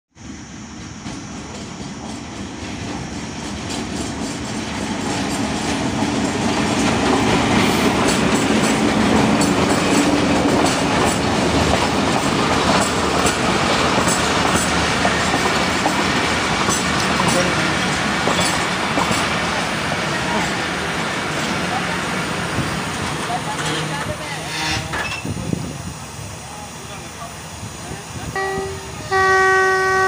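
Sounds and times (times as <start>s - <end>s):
train coaches rumbling: 0.2s - 30.0s
wheels clacking over rail joints: 1.0s - 25.4s.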